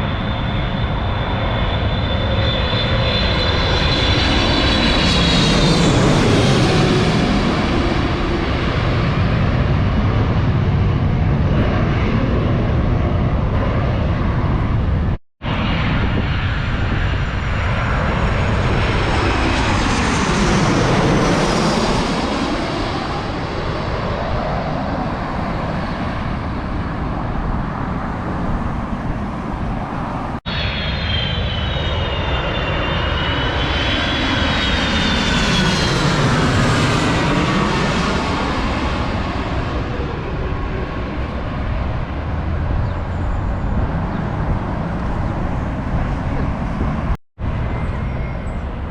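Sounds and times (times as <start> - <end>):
jet airliners passing overhead: 0.0 - 48.9.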